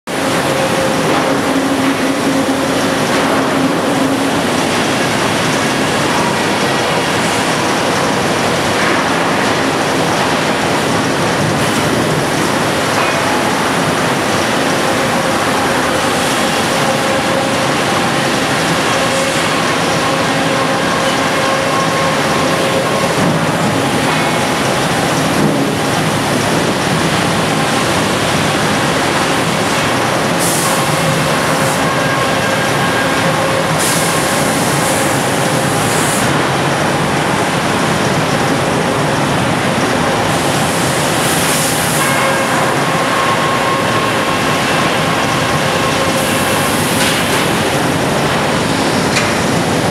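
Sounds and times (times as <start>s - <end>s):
sawmill machinery running: 0.1s - 49.9s.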